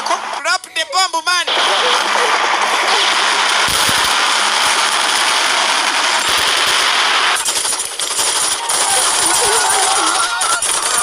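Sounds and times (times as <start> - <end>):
dense crackling rattle: 1.6 - 11.0.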